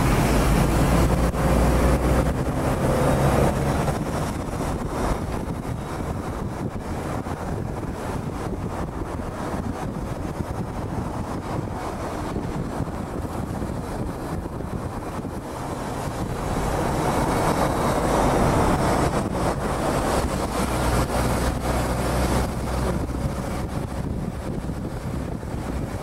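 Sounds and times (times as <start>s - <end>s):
road noise: 0.0s - 26.0s
vehicle engine drone: 0.0s - 26.0s
wind rushing over microphone: 0.0s - 26.0s.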